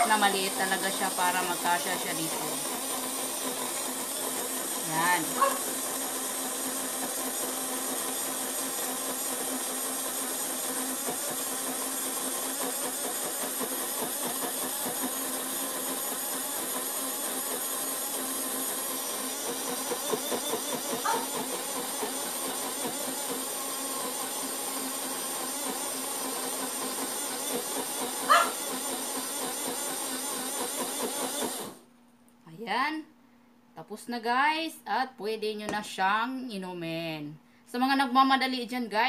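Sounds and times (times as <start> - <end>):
blender motor running: 0.0 - 31.9
blender knocks and rattles: 0.4 - 31.8.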